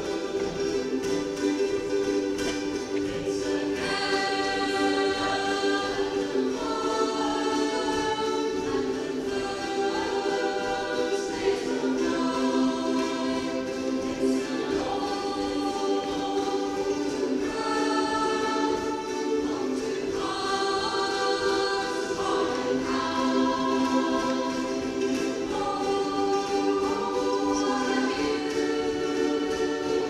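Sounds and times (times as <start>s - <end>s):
group singing in unison: 0.0s - 30.0s
ukuleles strumming: 0.0s - 30.0s.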